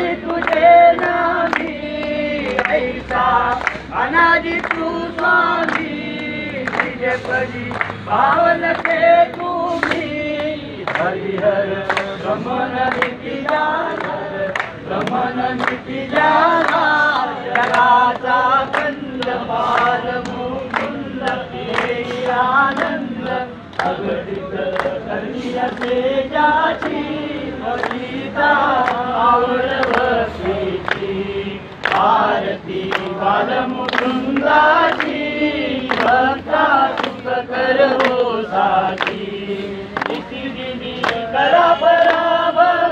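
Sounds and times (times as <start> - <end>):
hand claps: 0.0 - 42.7
group singing devotional song: 0.0 - 42.9.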